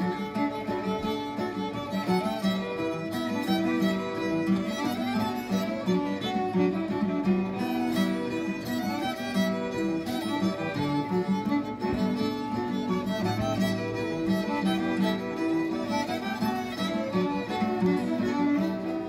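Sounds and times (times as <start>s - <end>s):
acoustic guitar strumming: 0.0s - 19.0s
fiddles playing fast tune: 0.0s - 19.0s.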